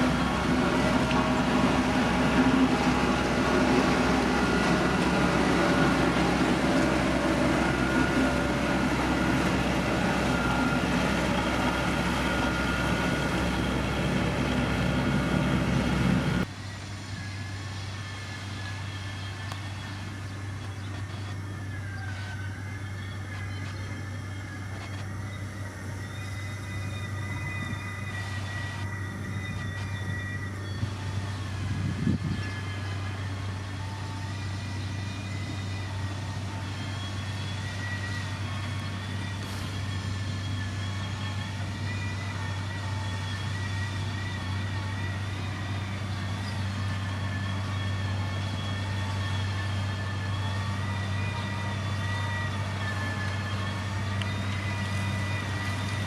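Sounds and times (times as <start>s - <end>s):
faint wavering high whine: 0.0s - 56.0s
heavy diesel machinery running: 0.0s - 56.0s
machine low hum: 0.0s - 56.0s.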